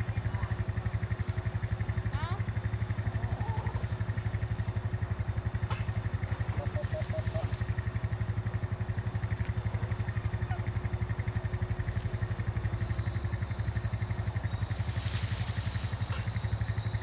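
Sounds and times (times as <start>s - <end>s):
engine idling with chugging beat: 0.0s - 17.0s.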